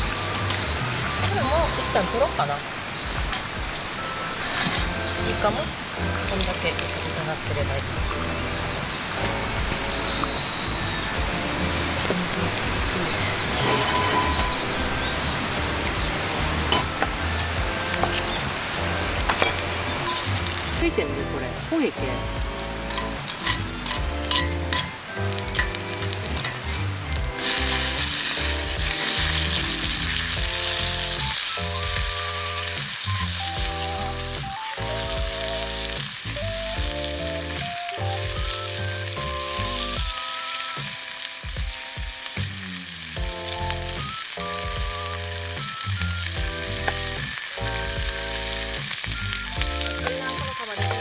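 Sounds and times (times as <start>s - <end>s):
background music with slow melody: 0.0s - 51.0s
meat sizzling in hot oil: 0.0s - 51.0s.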